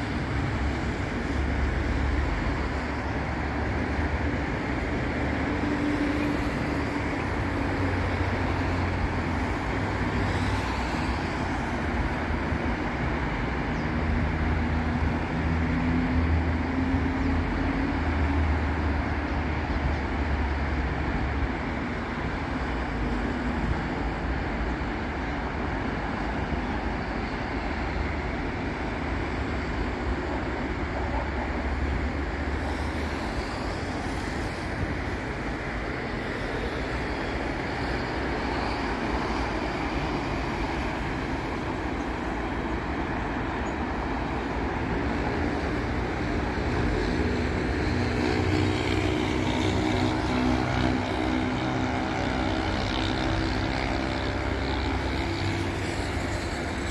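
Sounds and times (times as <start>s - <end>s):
road traffic: 0.0s - 56.9s.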